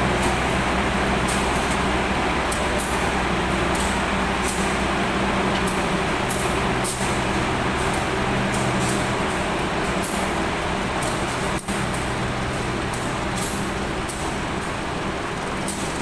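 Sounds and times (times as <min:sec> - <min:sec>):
train carriage rumble and hum: 0:00.0 - 0:16.0.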